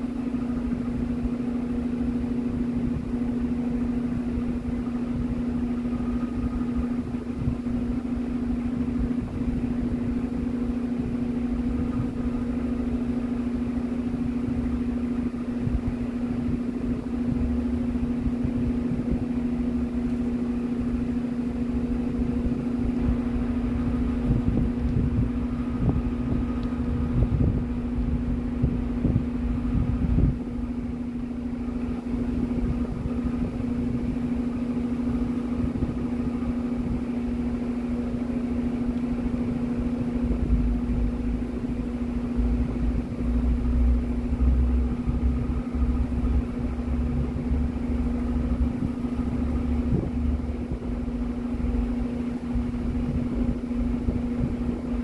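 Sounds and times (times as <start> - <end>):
motor humming: 0.0 - 55.0.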